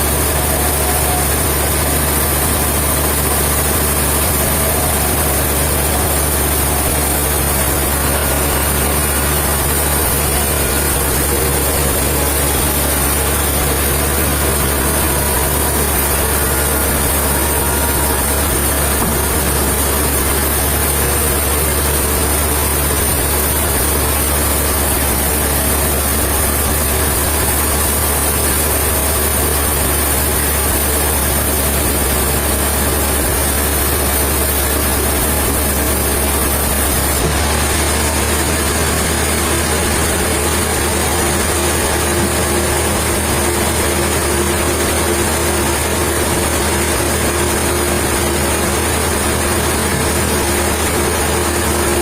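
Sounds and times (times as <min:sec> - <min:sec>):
engine running steadily: 0:00.0 - 0:52.0.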